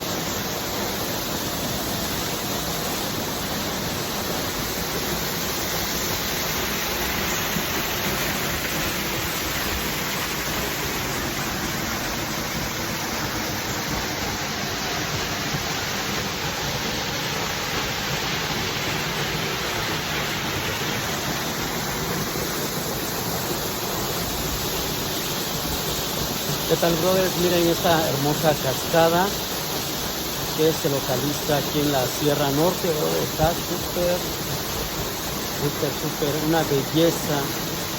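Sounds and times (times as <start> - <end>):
waterfall crashing: 0.0 - 37.9.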